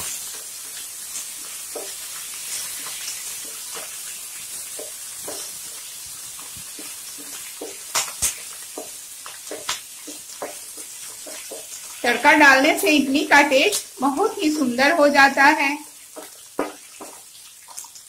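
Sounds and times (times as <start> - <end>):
spatula scraping and tapping pan: 0.0 - 13.9, 16.1 - 17.8
spices sizzling in hot oil: 0.0 - 18.0.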